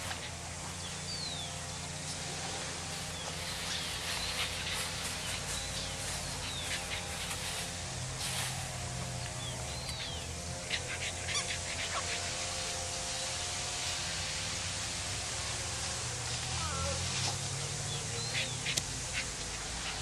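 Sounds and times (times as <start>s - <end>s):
birds chirping: 0.0s - 14.4s, 15.3s - 20.0s
steady low hum: 0.0s - 20.0s.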